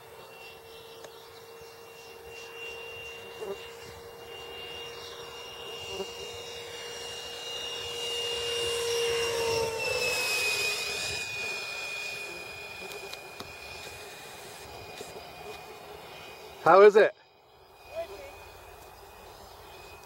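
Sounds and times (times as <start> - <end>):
electric ducted fan whine: 0.0 - 20.0.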